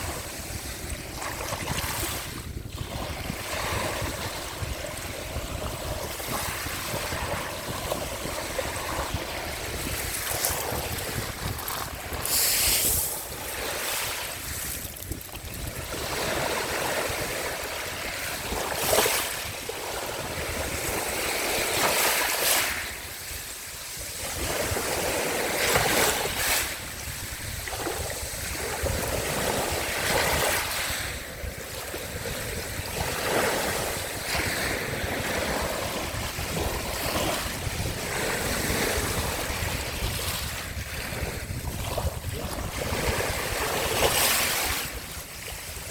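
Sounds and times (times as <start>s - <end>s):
sea waves breaking on shore: 0.0s - 45.9s
wind noise on microphone: 0.0s - 45.9s.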